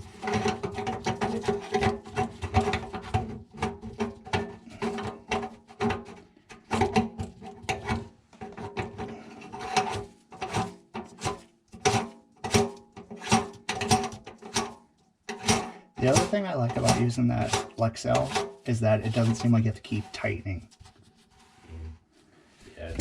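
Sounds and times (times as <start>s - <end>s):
clicks and scraping of sink drain fitting: 0.0s - 20.0s.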